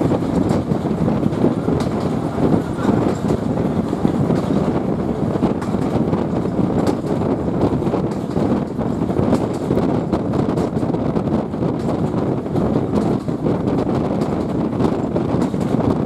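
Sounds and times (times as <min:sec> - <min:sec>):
clicks over rail joints: 0:00.0 - 0:16.0
rumble of wheels on rail: 0:00.0 - 0:16.0.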